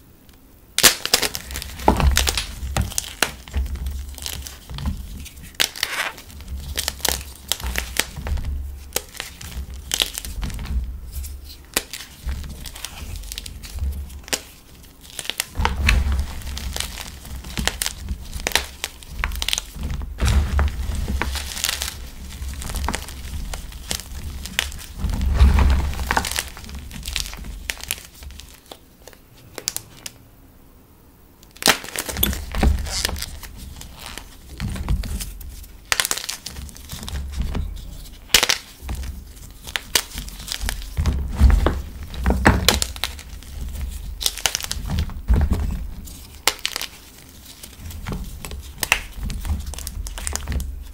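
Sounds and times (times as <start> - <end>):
chalk blocks crunching: 0.8 - 30.2, 31.5 - 50.9.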